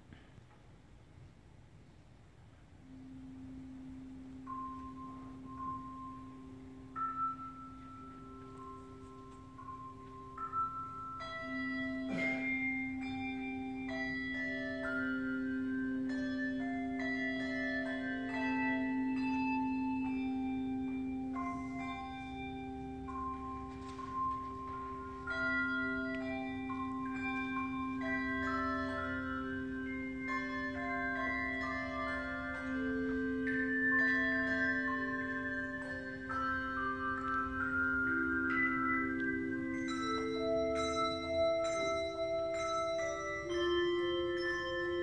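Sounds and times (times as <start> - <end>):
low held tone: 2.6 - 45.0
handbell choir ringing melody: 2.8 - 45.0.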